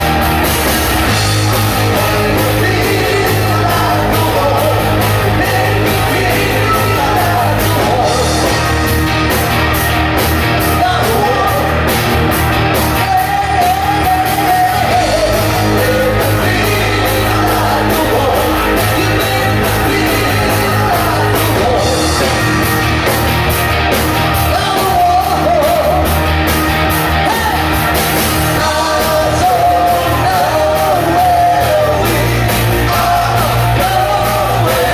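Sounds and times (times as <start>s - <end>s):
live rock band playing: 0.0s - 34.9s
person singing: 1.1s - 9.0s, 10.6s - 12.0s, 12.7s - 22.8s, 24.3s - 26.2s, 26.9s - 34.9s.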